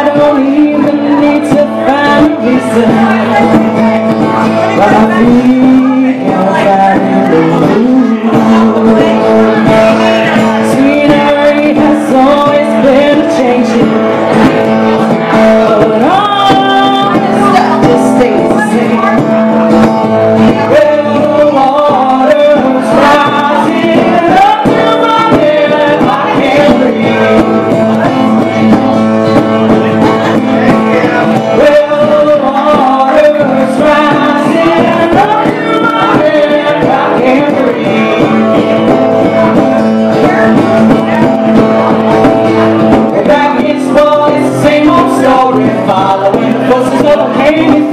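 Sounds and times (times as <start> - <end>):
acoustic guitar strumming: 0.0 - 47.9
person singing: 0.0 - 47.9.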